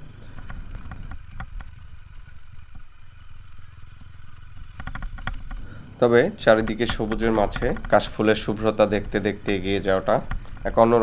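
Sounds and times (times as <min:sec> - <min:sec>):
knocks and rattles of bike: 0:00.0 - 0:11.0
motorcycle engine running: 0:00.0 - 0:11.0.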